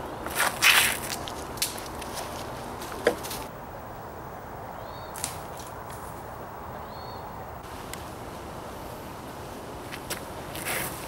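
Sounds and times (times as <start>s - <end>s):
woodland ambience: 0.0s - 11.0s.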